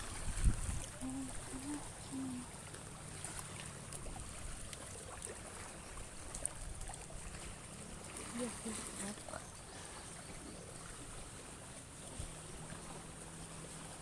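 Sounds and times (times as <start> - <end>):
water lapping at shoreline: 0.0 - 14.0.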